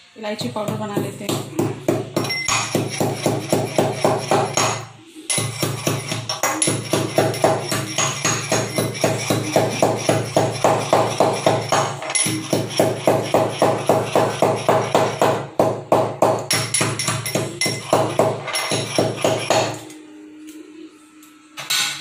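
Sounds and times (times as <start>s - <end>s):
steel pestle pounding in tumbler: 0.6s - 19.8s.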